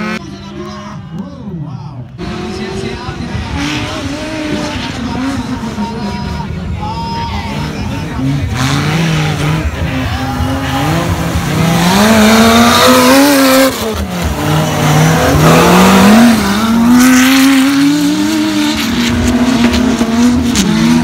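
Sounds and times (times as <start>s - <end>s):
off-road engines revving: 0.0s - 1.3s, 2.0s - 21.0s.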